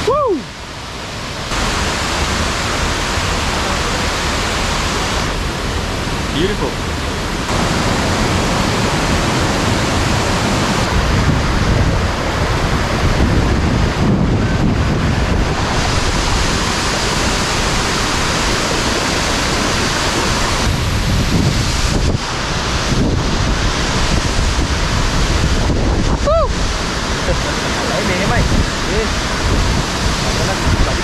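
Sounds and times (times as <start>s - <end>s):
waterfall roaring: 0.0s - 31.0s
wind buffeting microphone: 0.0s - 31.0s.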